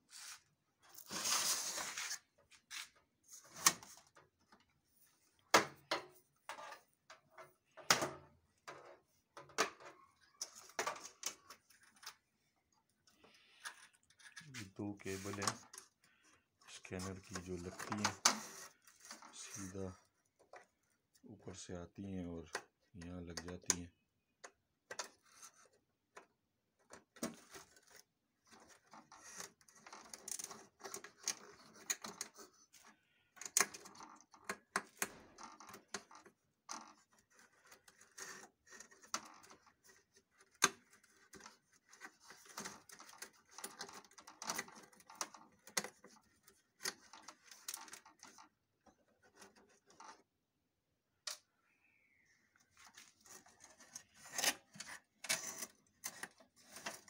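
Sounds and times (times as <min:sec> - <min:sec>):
hands handling cables and connectors: 0:00.0 - 0:21.3, 0:22.4 - 0:50.4, 0:52.6 - 0:57.0.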